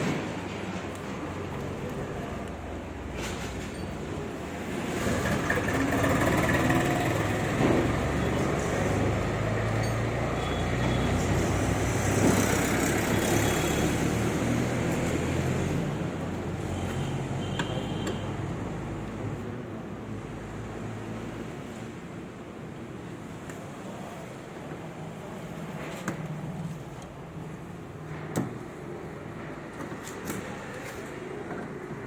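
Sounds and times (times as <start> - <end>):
road and traffic noise: 0.0 - 32.0.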